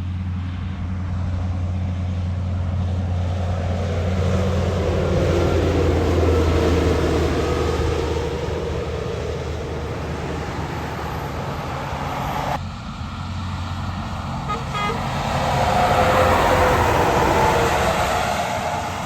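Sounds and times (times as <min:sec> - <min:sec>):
truck engine passing: 0:00.0 - 0:19.0.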